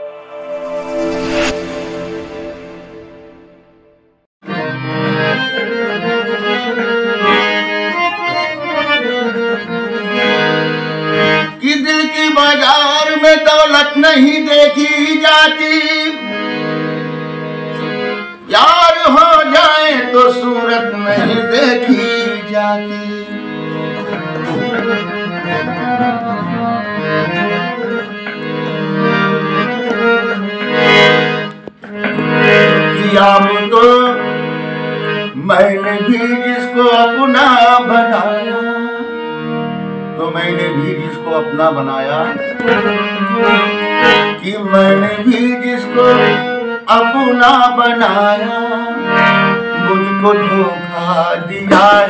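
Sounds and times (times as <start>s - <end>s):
harmonium playing: 0.0s - 52.0s.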